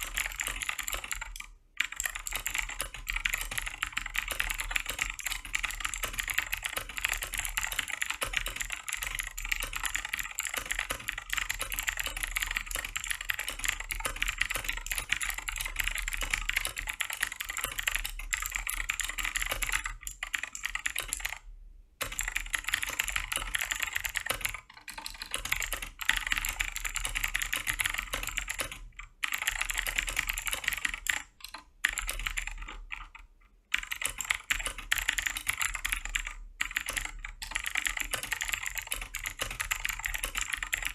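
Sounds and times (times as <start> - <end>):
typing on mechanical keyboard: 0.0 - 40.9.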